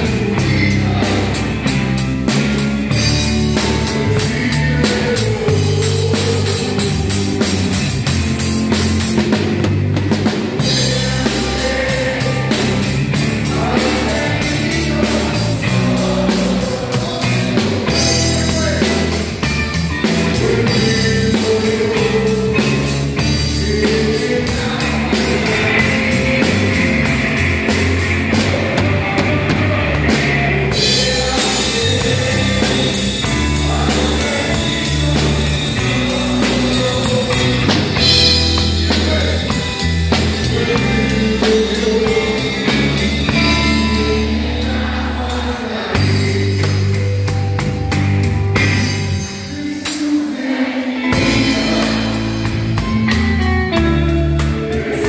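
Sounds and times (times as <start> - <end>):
person singing: 0.0 - 2.0, 2.9 - 9.4, 10.2 - 48.0, 48.6 - 55.0
drum kit beat: 0.0 - 55.0
guitar: 0.0 - 55.0
rock band playing: 0.0 - 55.0.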